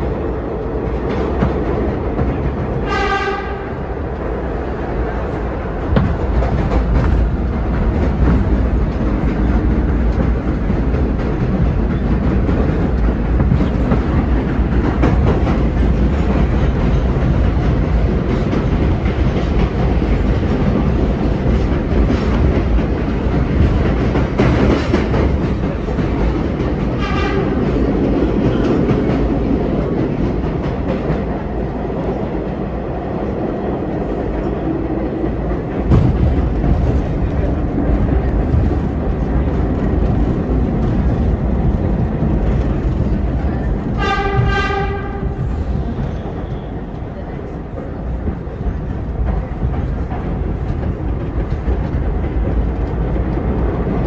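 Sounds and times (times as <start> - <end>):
subway train wheels rumbling: 0.0 - 54.0.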